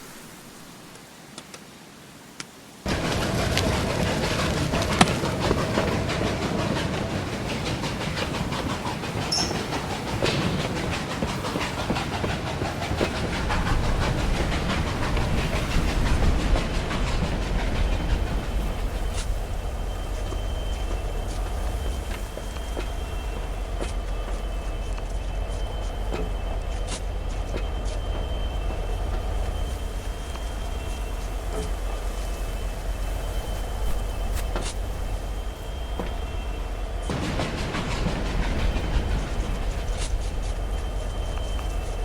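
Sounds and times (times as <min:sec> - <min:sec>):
train rumbling and clattering: 0:02.4 - 0:42.0.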